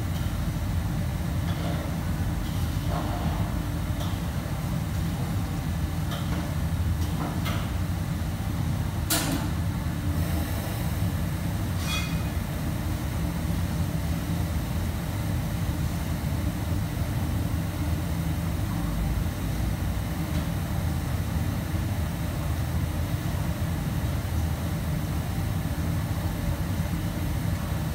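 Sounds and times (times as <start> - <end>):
kitchen fans rumbling: 0.0 - 27.9.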